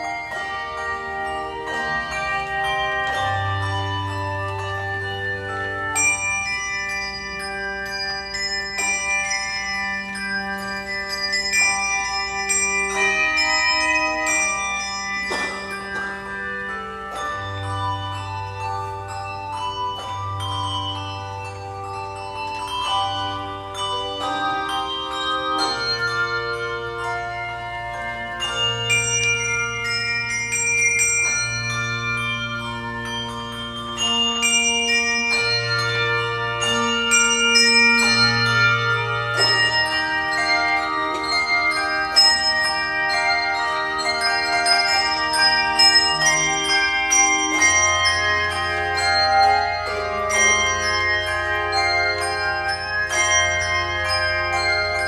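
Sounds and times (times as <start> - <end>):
handbell choir playing: 0.0 - 55.0.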